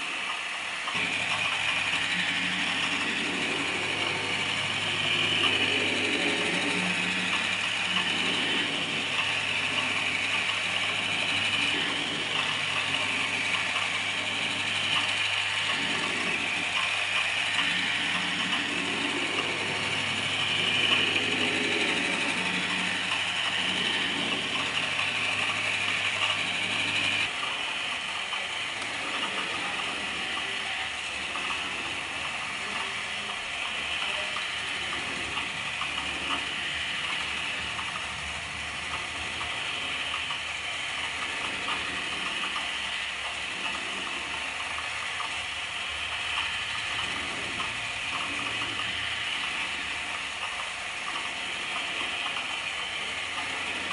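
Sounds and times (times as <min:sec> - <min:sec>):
machine whirring: 0:00.0 - 0:53.9
rapid gear clicking: 0:00.0 - 0:53.9
low hum: 0:00.9 - 0:44.6.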